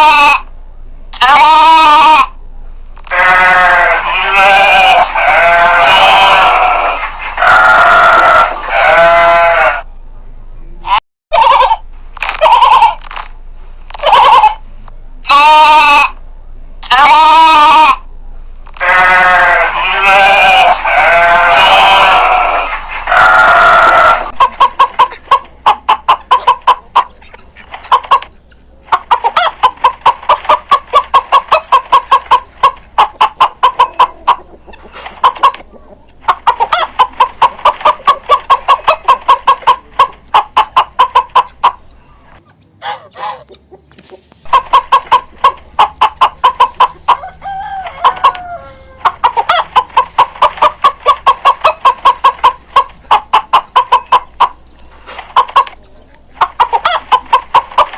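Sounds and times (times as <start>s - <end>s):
chickens clucking: 0.0s - 9.9s, 10.6s - 16.2s, 16.8s - 57.9s.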